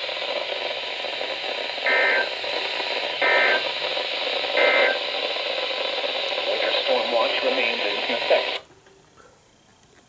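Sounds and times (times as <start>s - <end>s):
radio static hiss: 0.0s - 8.7s.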